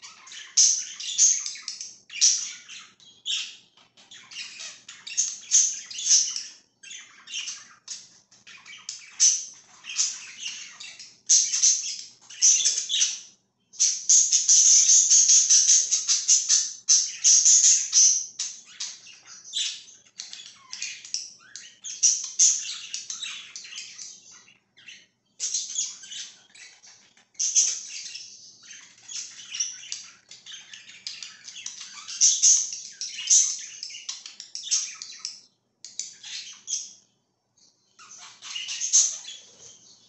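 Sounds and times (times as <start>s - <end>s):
budgerigars chirping and chattering: 0.0s - 40.0s.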